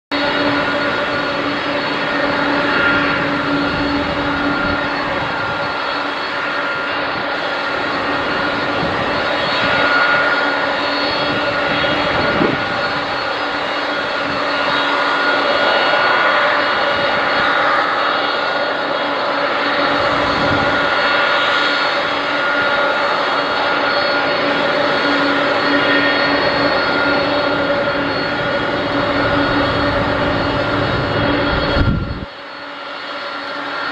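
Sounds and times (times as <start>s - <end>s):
jet engines whining: 0.1s - 33.9s.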